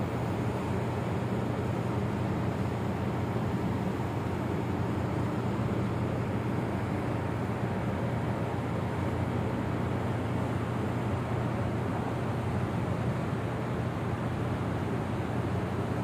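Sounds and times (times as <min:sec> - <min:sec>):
ship engine drone: 0:00.0 - 0:16.0.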